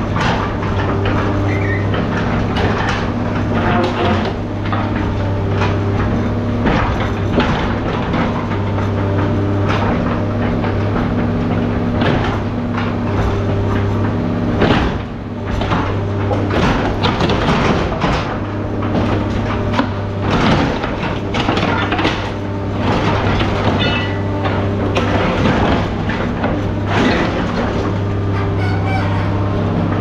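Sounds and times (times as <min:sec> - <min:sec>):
engine humming: 0:00.0 - 0:30.0
scrap metal clanking: 0:00.1 - 0:30.0.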